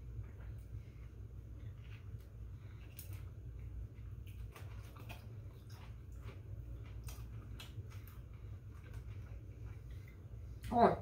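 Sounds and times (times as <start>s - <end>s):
steady low hum: 0.0s - 11.0s
wet chewing mouth clicks: 1.6s - 10.7s.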